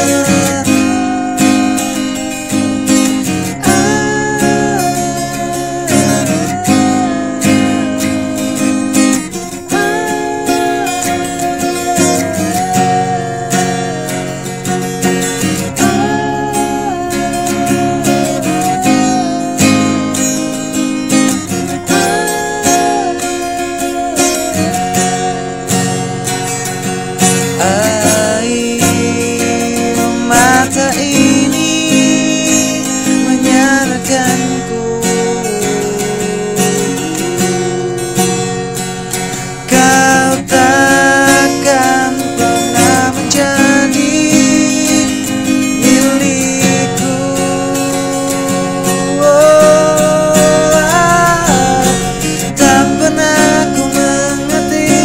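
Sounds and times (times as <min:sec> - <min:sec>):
acoustic guitar strumming: 0:00.0 - 0:55.0
person singing: 0:00.0 - 0:55.0.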